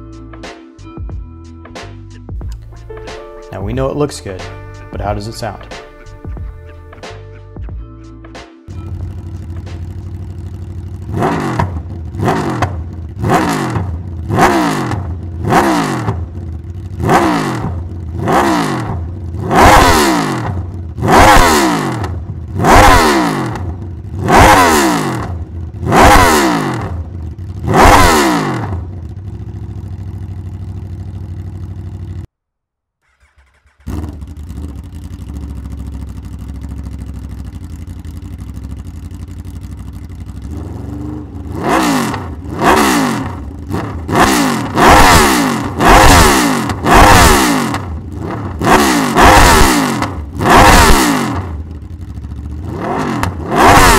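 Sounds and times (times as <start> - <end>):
motorcycle engine idling: 2.4 - 7.1, 8.7 - 32.3, 33.0 - 53.9
motorcycle engine revving: 8.7 - 32.3, 33.0 - 53.9.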